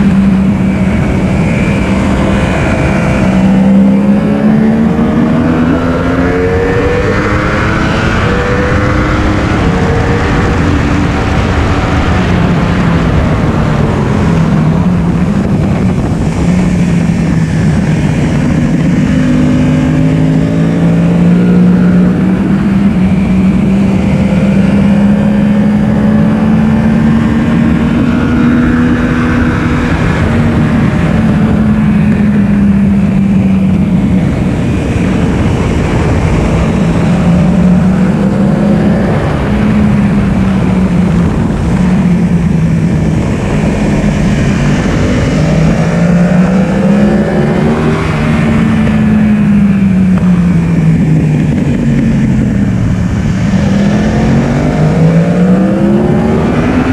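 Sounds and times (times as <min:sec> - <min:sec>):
heavy wind rush: 0:00.0 - 0:56.9
motorcycle engine running hard: 0:00.0 - 0:56.9.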